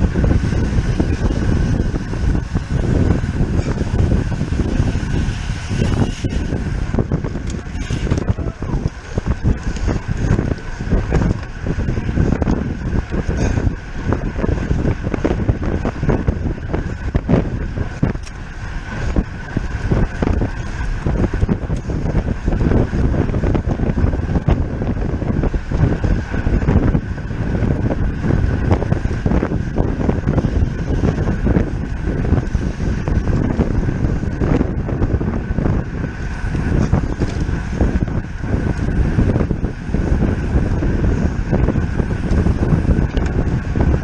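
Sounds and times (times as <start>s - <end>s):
road noise: 0.0s - 44.0s
wind buffeting microphone: 0.0s - 44.0s.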